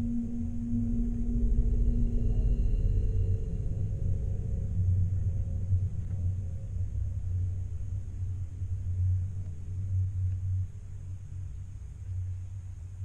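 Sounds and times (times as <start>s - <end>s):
deep low ambient drone: 0.0s - 13.0s.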